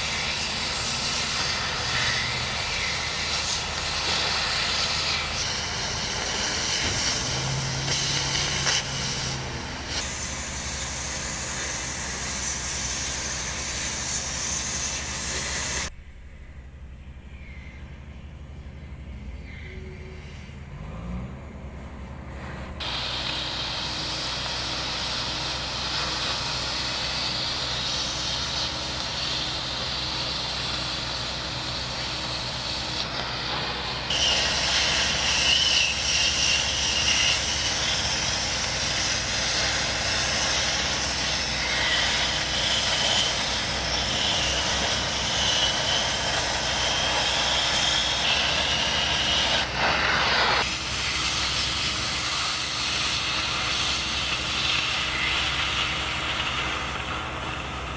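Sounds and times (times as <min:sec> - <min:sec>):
cutting torch hissing: 0:00.0 - 0:15.9, 0:22.8 - 0:57.9.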